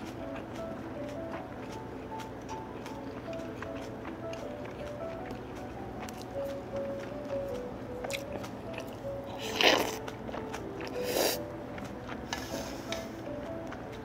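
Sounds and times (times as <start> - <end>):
soft background music: 0.0 - 14.0
loud eating mouth noises: 1.4 - 13.1.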